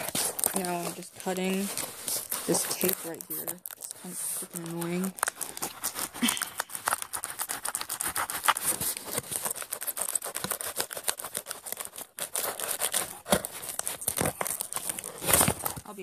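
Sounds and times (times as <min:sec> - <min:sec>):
tape being cut from box: 0:00.0 - 0:15.9
packaging crackling and clicking: 0:00.0 - 0:16.0.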